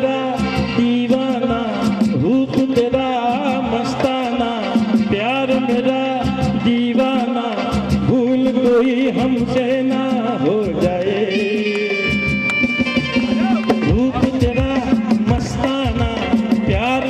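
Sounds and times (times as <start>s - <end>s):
man singing into a microphone: 0.0s - 12.5s, 13.1s - 17.0s
backing track with percussion: 0.0s - 17.0s.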